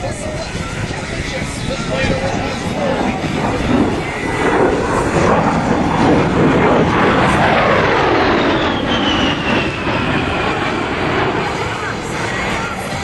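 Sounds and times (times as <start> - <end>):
jet engines passing with whine: 0.0 - 13.0.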